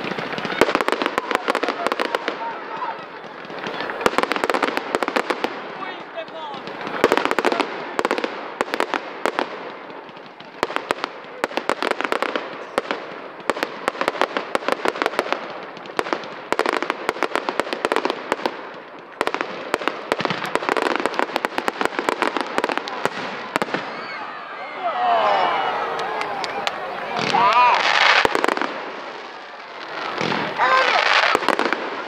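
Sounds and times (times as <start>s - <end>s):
fireworks cracking and popping: 0.0s - 24.4s, 25.0s - 32.0s.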